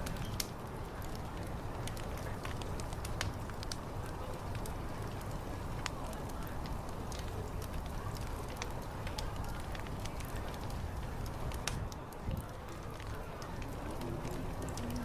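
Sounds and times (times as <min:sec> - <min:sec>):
sharp snaps and pops: 0:00.0 - 0:15.0
wood fire crackling: 0:00.0 - 0:15.0.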